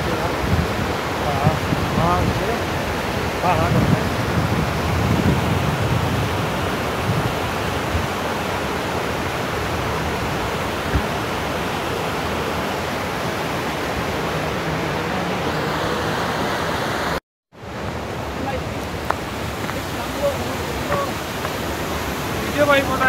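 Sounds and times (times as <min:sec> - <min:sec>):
stream rushing over boulders: 0:00.0 - 0:23.0.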